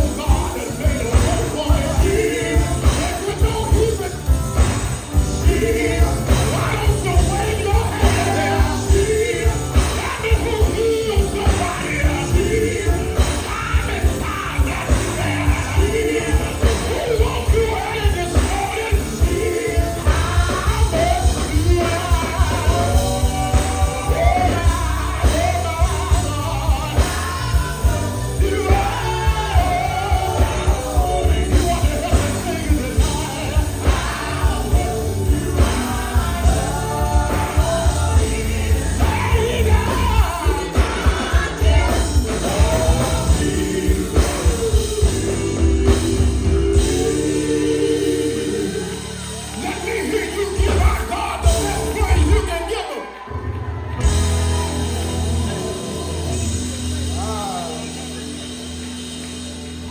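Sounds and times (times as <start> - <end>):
steady drum beat: 0.0 - 52.8, 54.0 - 59.9
singing: 0.0 - 58.6
gospel band playing: 0.0 - 59.9.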